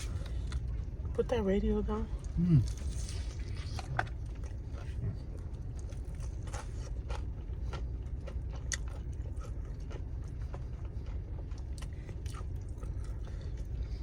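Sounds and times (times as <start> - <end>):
steady low rumble: 0.0 - 14.0
person chewing fried chicken: 2.2 - 14.0.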